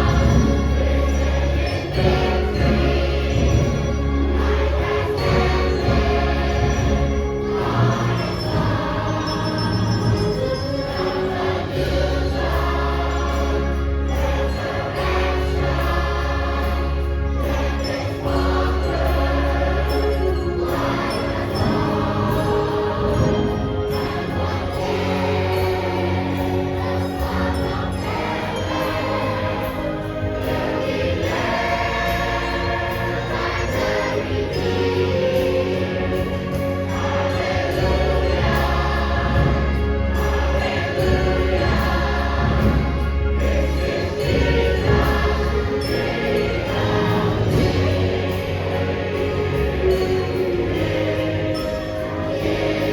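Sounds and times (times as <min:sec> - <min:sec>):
choir singing: 0:00.0 - 0:52.9
instrumental accompaniment: 0:00.0 - 0:52.9.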